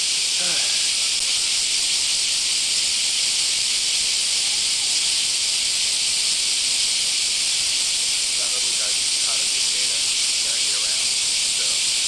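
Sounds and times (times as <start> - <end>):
cicadas buzzing chorus: 0.0 - 12.0.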